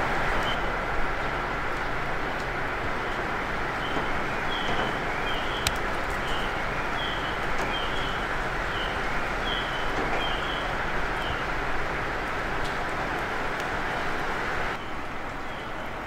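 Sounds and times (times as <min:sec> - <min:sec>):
diesel railcar engine idling: 0:00.0 - 0:16.0.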